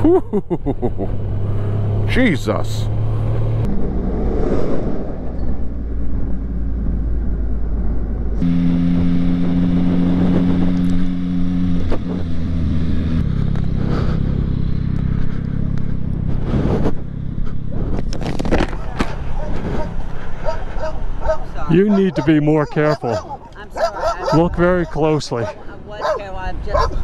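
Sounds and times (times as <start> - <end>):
motorcycle engine: 0.4 - 4.4, 5.0 - 24.8
riding wind noise: 3.1 - 27.0.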